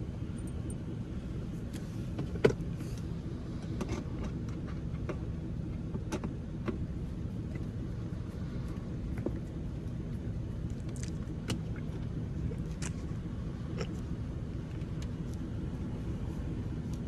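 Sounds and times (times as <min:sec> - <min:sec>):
vehicle rumble inside cabin: 0:00.0 - 0:17.0.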